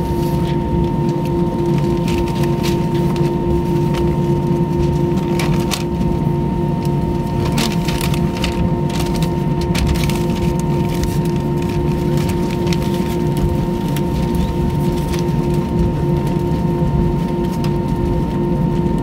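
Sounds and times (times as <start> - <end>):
aircraft engine hum and rumble: 0.0 - 19.0.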